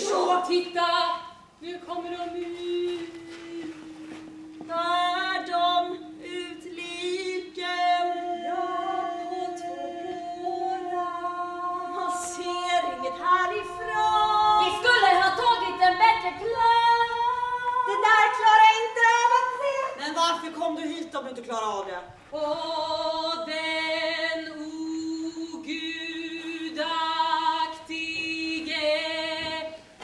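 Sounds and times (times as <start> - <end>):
women's choir singing unaccompanied: 0.0 - 20.0, 22.3 - 30.0.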